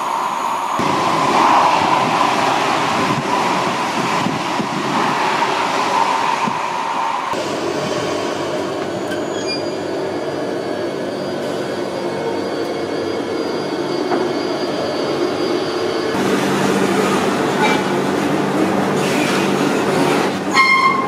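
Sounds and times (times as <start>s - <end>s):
electric train rushing past: 0.0s - 21.0s.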